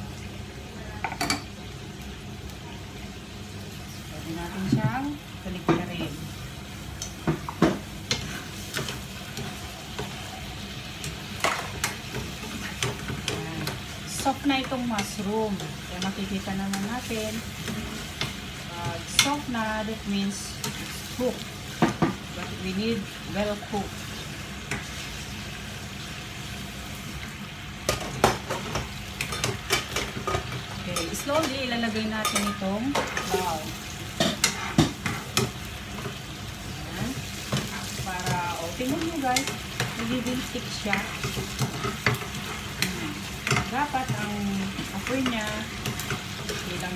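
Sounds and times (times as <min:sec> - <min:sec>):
food sizzling in frying pan: 0:00.0 - 0:46.9.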